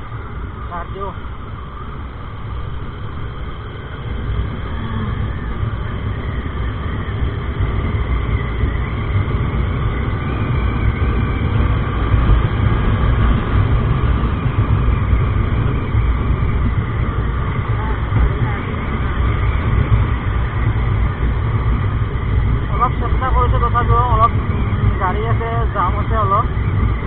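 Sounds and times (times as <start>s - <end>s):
motorcycle engine and road noise: 0.0s - 27.0s
wind rumble on microphone: 0.0s - 27.0s.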